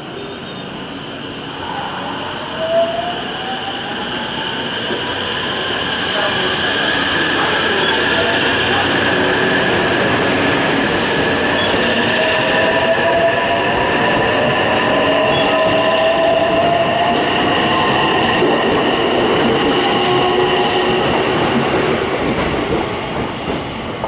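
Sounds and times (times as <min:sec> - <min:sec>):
electric train rail and wheel noise: 0:00.0 - 0:24.0.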